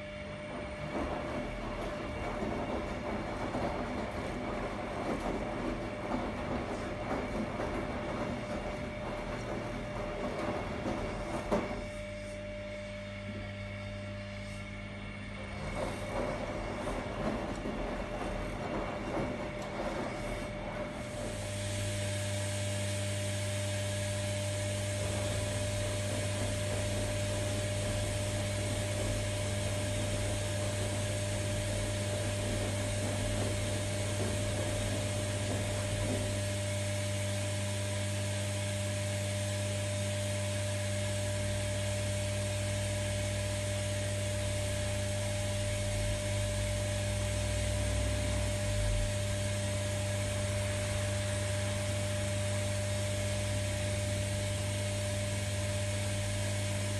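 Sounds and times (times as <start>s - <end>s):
washing machine running: 0.0s - 56.9s.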